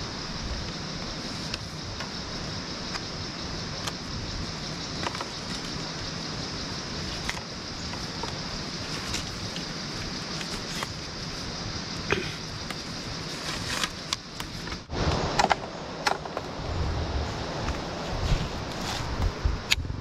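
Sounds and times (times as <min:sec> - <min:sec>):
small stream rushing: 0:00.0 - 0:19.7.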